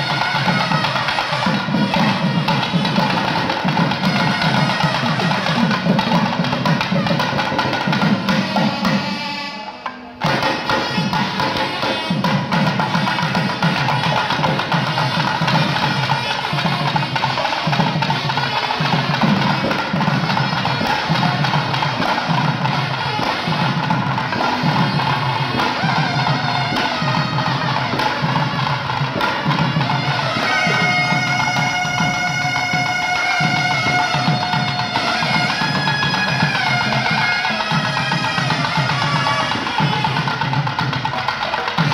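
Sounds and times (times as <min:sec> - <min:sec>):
drums playing busy pattern: 0:00.0 - 0:41.9.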